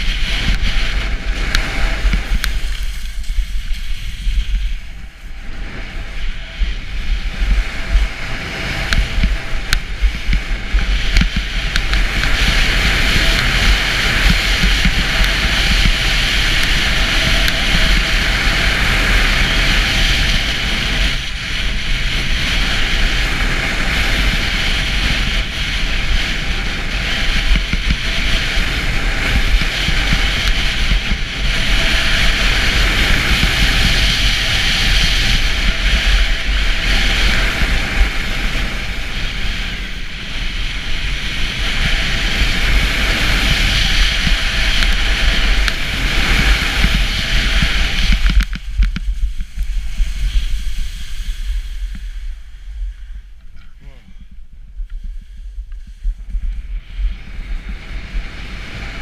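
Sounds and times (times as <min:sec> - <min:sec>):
skis carving on snow: 0:00.0 - 0:54.1, 0:54.8 - 0:59.0
wind on microphone: 0:00.0 - 0:59.0.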